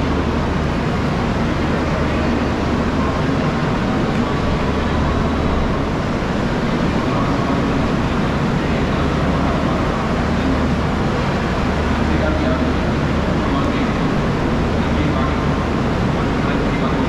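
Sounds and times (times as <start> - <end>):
even wash of noise: 0.0 - 17.0
steady low hum: 0.0 - 17.0.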